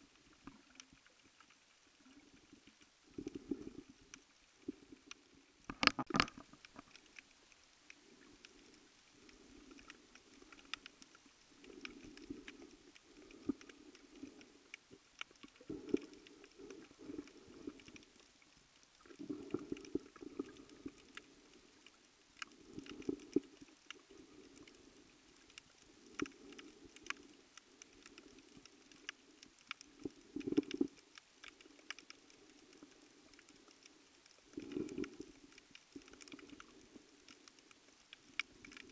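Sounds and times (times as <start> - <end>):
sharp clicks and crackles: 0.1 - 38.9.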